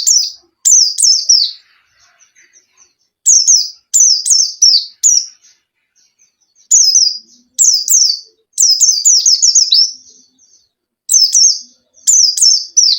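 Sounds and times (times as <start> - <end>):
bird singing high chirps: 0.0 - 12.9.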